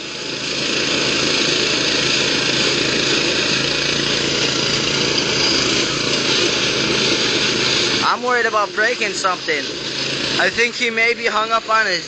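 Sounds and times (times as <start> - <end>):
riding lawn mower engines under load: 0.0 - 12.0.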